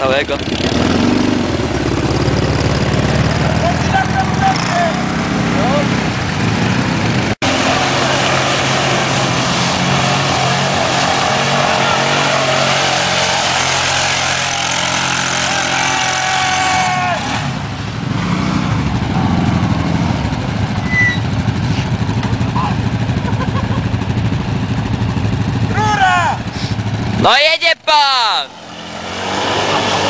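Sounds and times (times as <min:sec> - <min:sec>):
engine revving with wavering pitch: 0:00.0 - 0:23.5, 0:28.5 - 0:30.0
atv engines running: 0:00.0 - 0:30.0.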